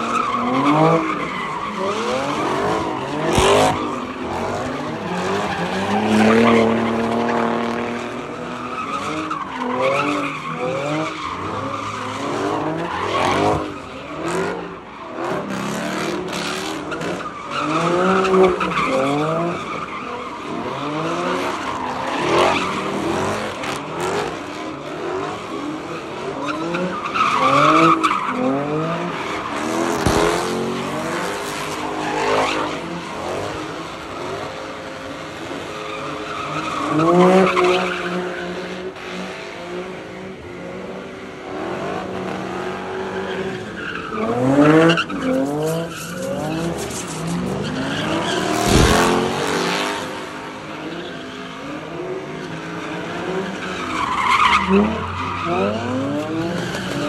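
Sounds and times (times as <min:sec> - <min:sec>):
car engines revving: 0:00.0 - 0:57.0
tyres squealing and skidding: 0:00.0 - 0:57.0.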